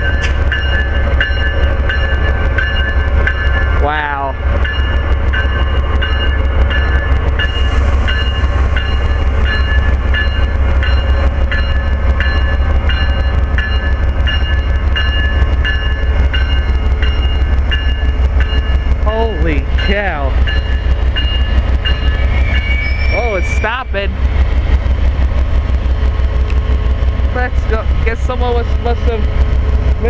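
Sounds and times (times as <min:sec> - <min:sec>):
locomotive bell ringing: 0:00.0 - 0:24.4
train rumbling: 0:00.0 - 0:30.0.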